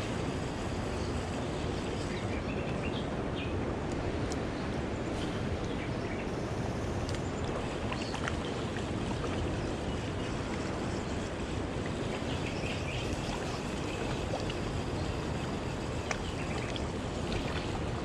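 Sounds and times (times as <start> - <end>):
river water along rocky bank: 0.0 - 18.0
wind: 0.0 - 18.0.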